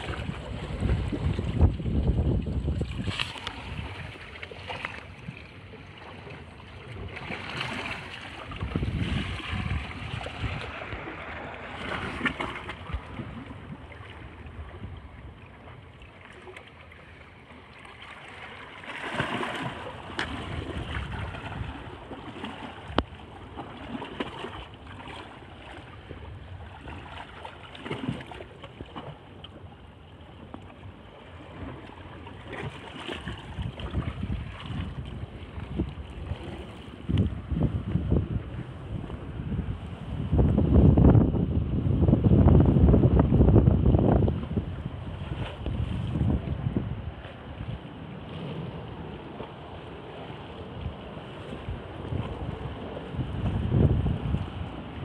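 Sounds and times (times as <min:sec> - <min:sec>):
waves washing among rocks: 0:00.0 - 0:14.7, 0:18.0 - 0:28.5, 0:32.4 - 0:55.0
wind rumbling on microphone: 0:00.0 - 0:17.7, 0:19.0 - 0:55.0.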